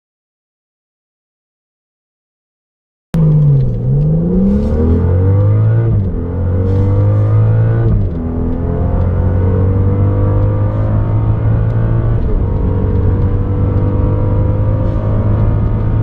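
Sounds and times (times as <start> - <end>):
car engine accelerating hard: 3.2 - 16.0
gear upshifts: 3.2 - 16.0.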